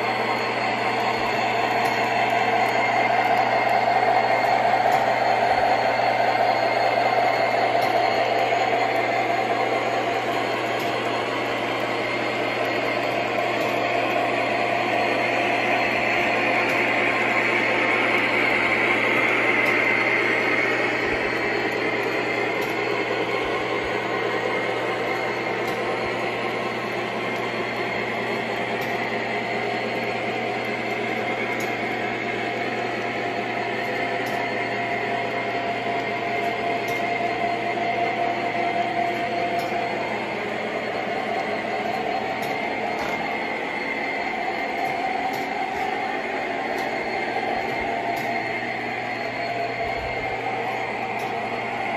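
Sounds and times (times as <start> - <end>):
model train whirring and rumbling: 0.0 - 51.9.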